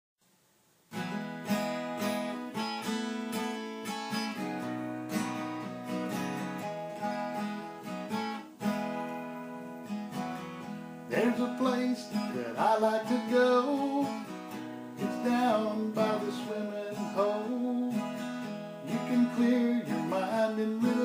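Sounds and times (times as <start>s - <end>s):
acoustic guitar strumming: 0.9s - 21.0s.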